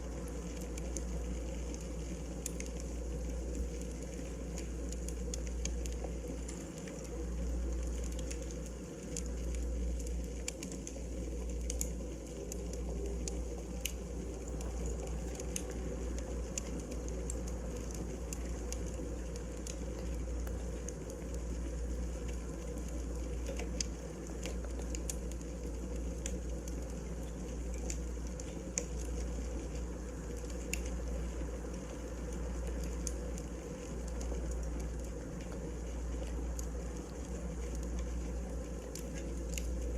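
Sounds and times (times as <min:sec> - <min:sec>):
fire low rumble and hiss: 0:00.0 - 0:39.9
wood fire crackling: 0:00.0 - 0:39.9.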